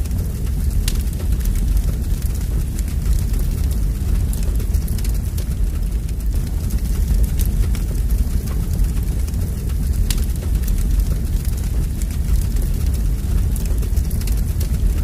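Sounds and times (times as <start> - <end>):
fire burning and crackling: 0.0 - 15.0.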